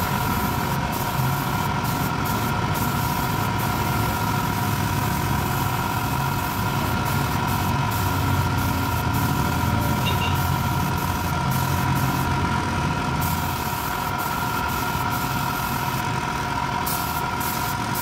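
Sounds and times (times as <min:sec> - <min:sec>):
air compressor running: 0:00.0 - 0:18.0.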